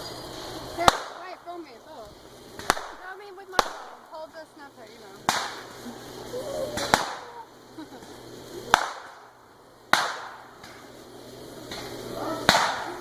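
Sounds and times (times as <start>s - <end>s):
fireworks cracking: 0.0s - 13.0s.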